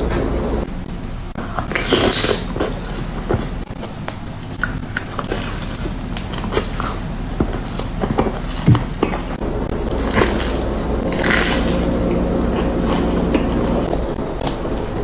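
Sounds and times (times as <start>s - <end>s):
crunching and chewing food: 0.0s - 15.0s.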